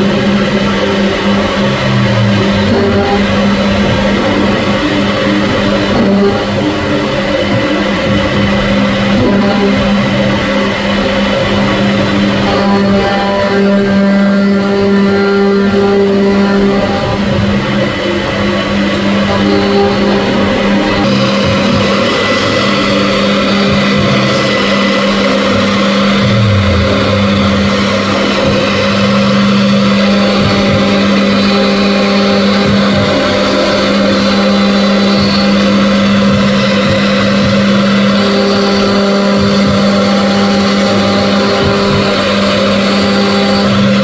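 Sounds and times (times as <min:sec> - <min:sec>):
high machine whining: 0:00.0 - 0:44.0
machine hum: 0:00.0 - 0:44.0.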